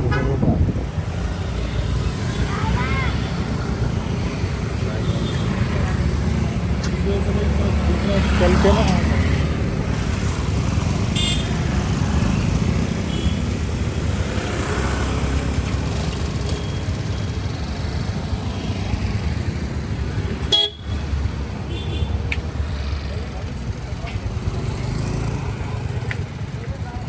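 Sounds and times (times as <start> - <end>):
rumble of road traffic: 0.0 - 27.0.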